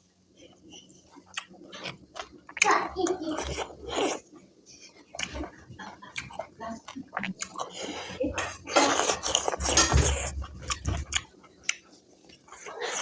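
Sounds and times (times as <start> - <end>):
wet noisy chewing: 0.3 - 13.0.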